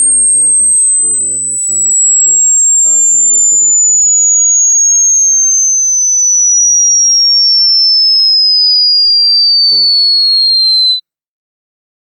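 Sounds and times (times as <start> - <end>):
sine tone sliding downward: 0.0 - 11.0.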